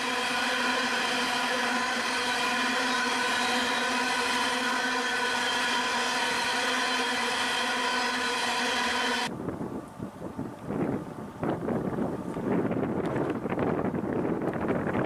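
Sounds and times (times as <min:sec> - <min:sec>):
steady pitched whine from train: 0:00.0 - 0:15.0.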